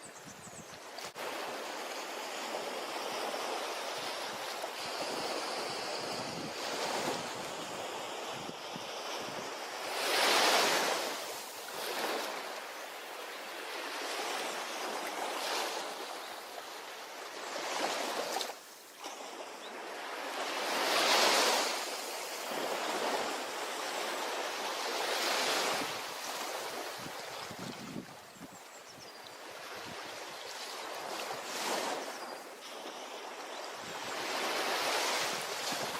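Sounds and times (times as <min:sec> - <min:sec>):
waves breaking on beach: 0:00.8 - 0:35.9.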